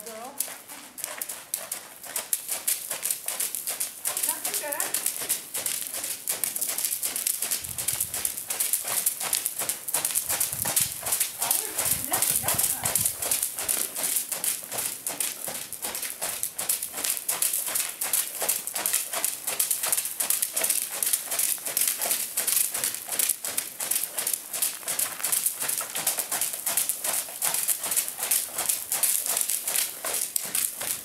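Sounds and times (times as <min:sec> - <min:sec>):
horse trotting on sand: 0:00.0 - 0:31.0.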